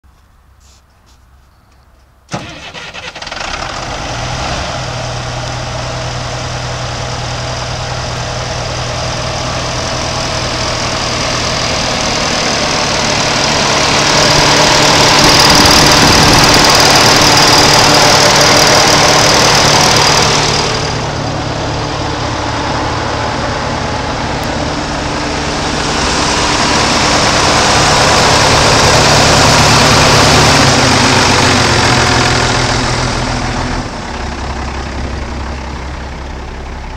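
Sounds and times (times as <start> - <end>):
diesel engine idling: 2.3 - 36.9.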